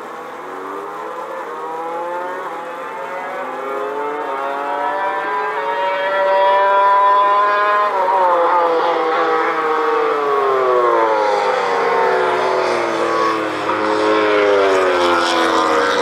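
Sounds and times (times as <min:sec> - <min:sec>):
racing motorcycle passing at high revs: 0:00.0 - 0:16.0.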